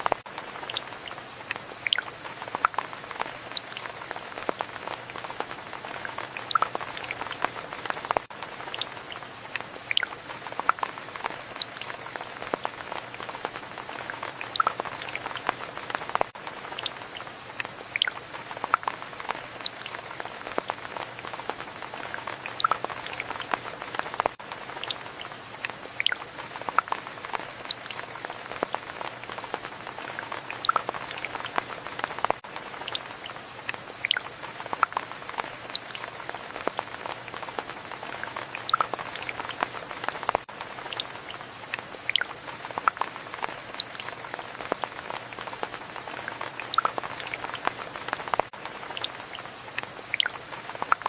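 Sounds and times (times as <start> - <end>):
raindrops pattering: 0.0 - 51.0
soft rain hiss: 0.0 - 51.0.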